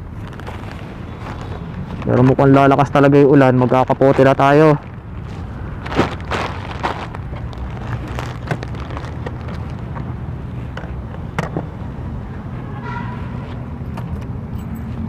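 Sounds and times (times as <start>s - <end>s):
low rumble of vehicles: 0.0s - 15.0s.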